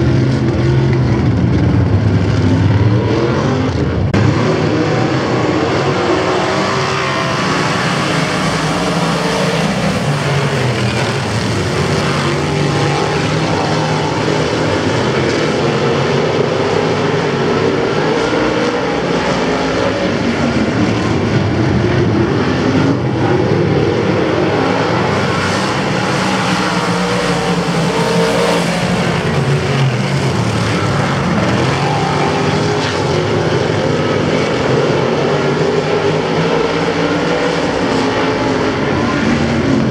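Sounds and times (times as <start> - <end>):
racing car engines at high revs: 0.0 - 39.9.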